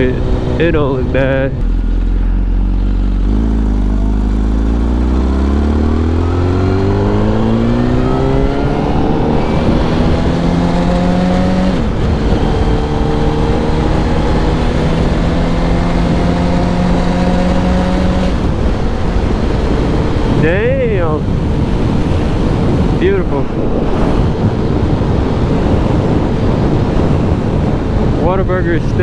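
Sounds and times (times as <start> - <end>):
motorcycle engine accelerating: 0.0 - 29.0
wind and road noise: 0.0 - 29.0.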